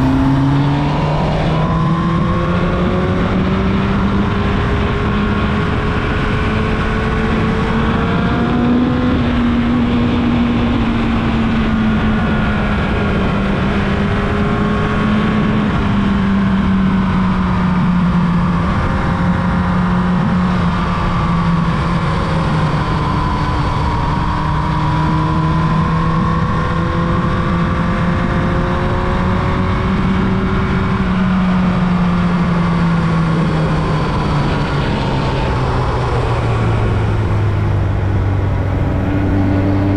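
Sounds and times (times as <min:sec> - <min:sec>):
motorcycle engine cruising: 0:00.0 - 0:39.9
noisy rush of wind: 0:00.0 - 0:39.9.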